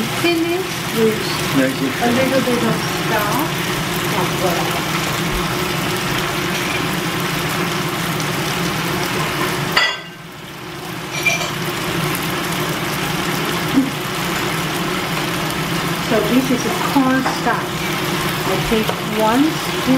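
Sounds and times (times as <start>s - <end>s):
food sizzling in a wok: 0.0s - 19.9s.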